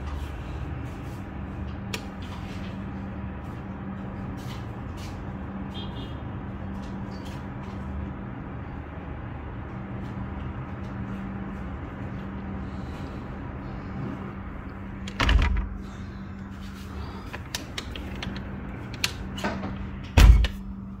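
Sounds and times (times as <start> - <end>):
distant road traffic: 0.0 - 21.0
steady hum: 0.0 - 21.0.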